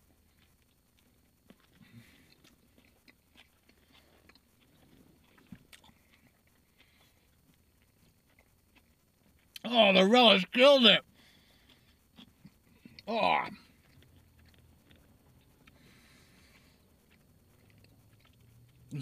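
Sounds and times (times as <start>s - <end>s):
soft chewing: 0.0s - 9.7s, 11.0s - 19.0s.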